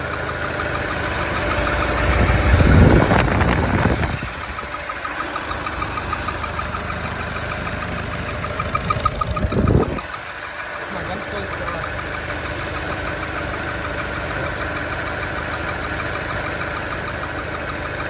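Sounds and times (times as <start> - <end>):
car engine idling: 0.0 - 18.0
rapid engine clacking: 0.0 - 18.0.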